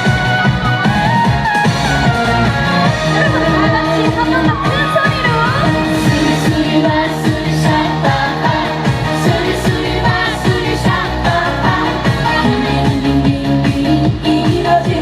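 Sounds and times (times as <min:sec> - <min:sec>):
backing track with dance beat: 0:00.0 - 0:15.0.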